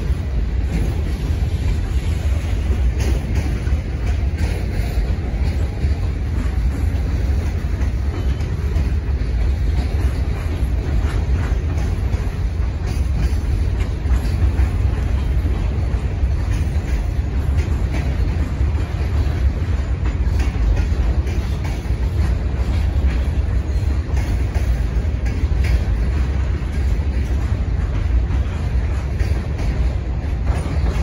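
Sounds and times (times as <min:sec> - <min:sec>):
freight cars rolling on rails: 0:00.0 - 0:31.0
wheels clicking and knocking: 0:00.0 - 0:31.0.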